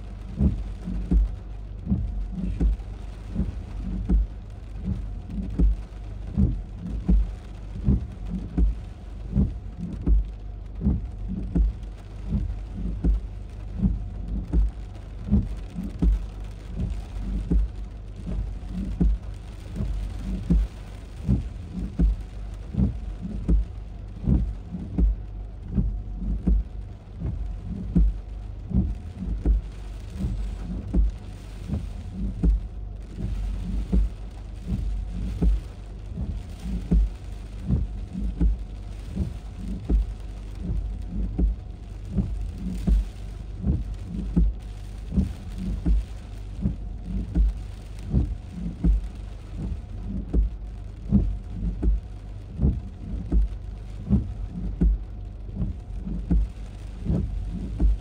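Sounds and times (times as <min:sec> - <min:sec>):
regular low thumps: 0:00.0 - 0:58.0
steady hiss: 0:00.0 - 0:58.0.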